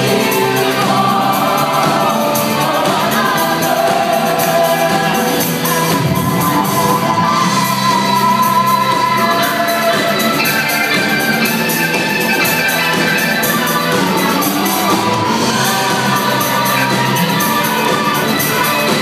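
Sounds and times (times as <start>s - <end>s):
drum kit beat: 0.0s - 19.0s
electric guitars: 0.0s - 19.0s.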